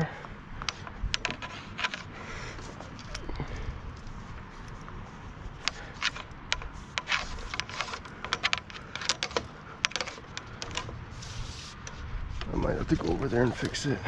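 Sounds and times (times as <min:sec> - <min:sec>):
cable and clamp clicking: 0:00.6 - 0:04.9, 0:05.6 - 0:13.8.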